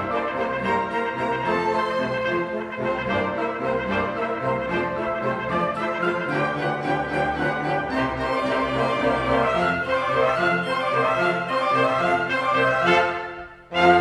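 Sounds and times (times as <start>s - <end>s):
small orchestra playing classical piece: 0.0s - 14.0s.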